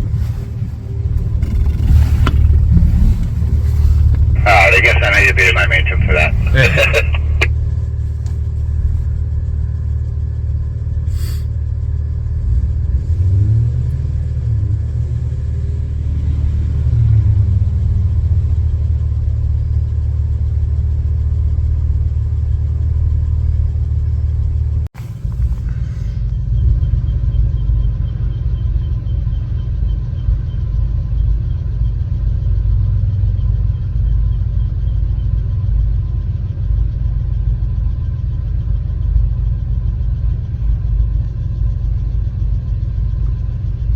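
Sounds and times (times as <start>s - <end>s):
car engine rumbling and revving: 0.0s - 4.4s, 11.6s - 43.9s.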